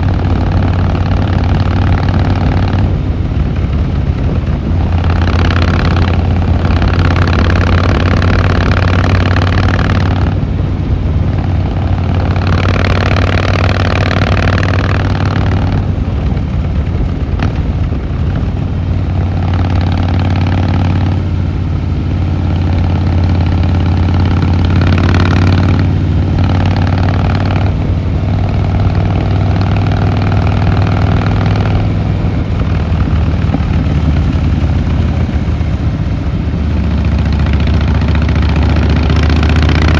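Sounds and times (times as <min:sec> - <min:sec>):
motorcycle engine exhaust note: 0:00.0 - 0:39.9
motorcycle engine rasping under throttle: 0:00.0 - 0:39.9.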